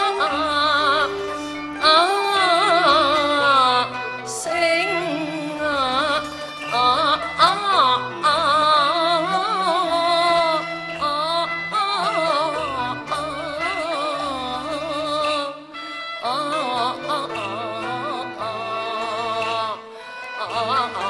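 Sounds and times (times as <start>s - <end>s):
opera singing with vibrato: 0.0s - 21.0s.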